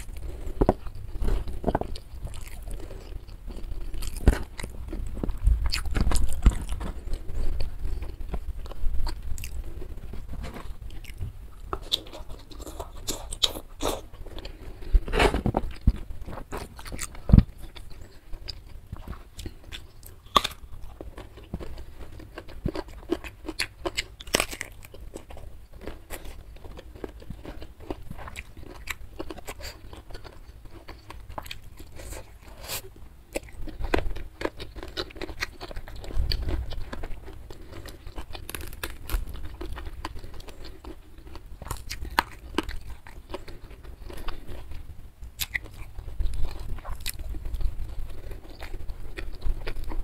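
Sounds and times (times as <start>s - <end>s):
chewing and crunching food: 0.0s - 50.0s.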